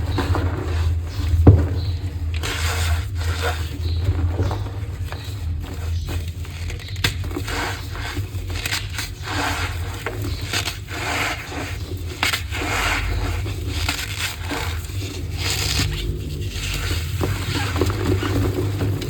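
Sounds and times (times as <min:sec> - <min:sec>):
chalk being crushed and crumbled: 0:00.0 - 0:19.0.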